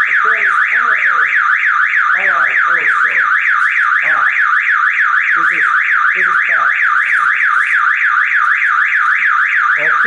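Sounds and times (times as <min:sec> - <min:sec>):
car alarm siren warbling: 0:00.0 - 0:10.0.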